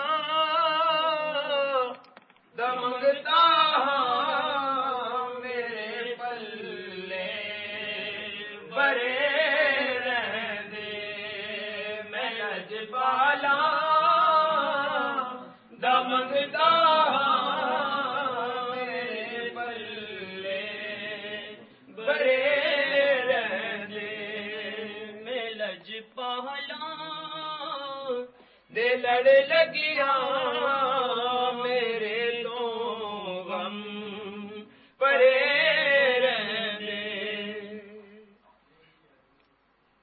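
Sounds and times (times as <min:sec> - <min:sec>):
man chanting: 0:02.6 - 0:38.3.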